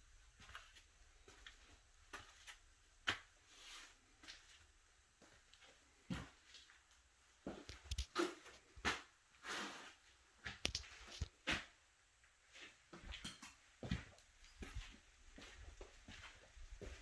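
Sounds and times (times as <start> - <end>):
footsteps on concrete floor: 0.4 - 4.6, 5.2 - 6.8, 7.4 - 11.8, 12.5 - 17.0.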